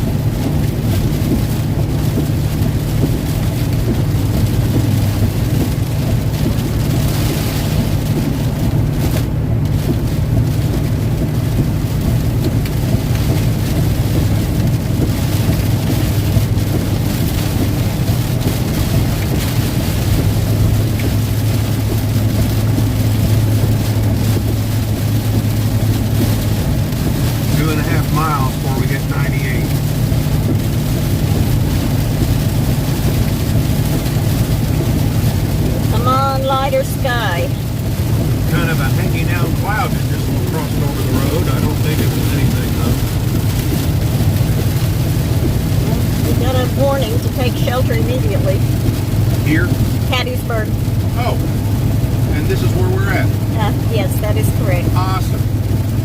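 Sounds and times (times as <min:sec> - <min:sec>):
rain and wind on vehicle: 0:00.0 - 0:56.0
vehicle engine and road drone: 0:00.0 - 0:56.0.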